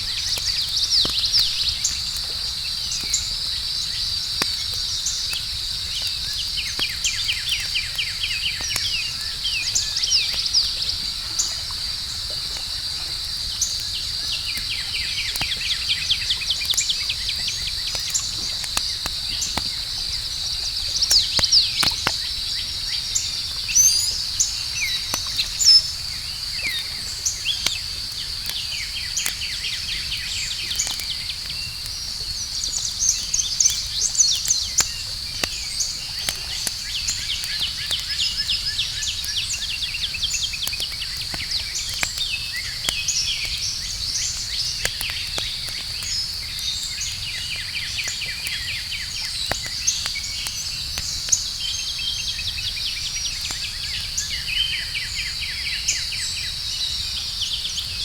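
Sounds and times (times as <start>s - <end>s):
campfire crackling: 0.0s - 58.0s
high insect chorus: 0.0s - 58.0s.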